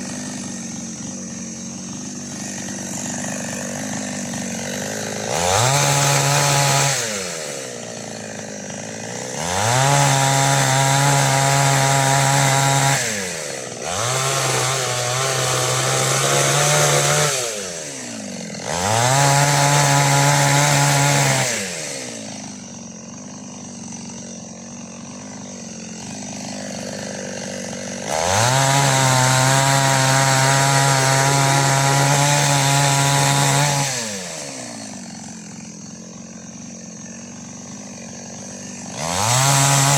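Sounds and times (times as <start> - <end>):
chainsaw engine revving: 0.0 - 39.9
chainsaw idling: 0.0 - 39.9.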